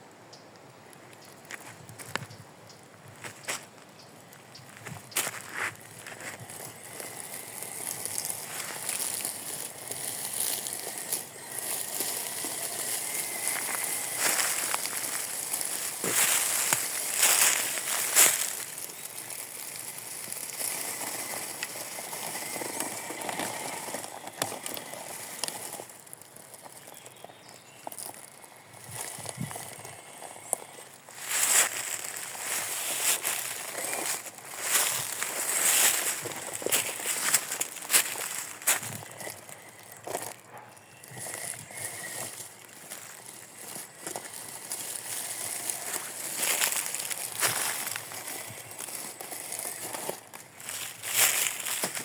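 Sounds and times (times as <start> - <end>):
toy car tyres crackling over leaves: 0.0 - 52.0.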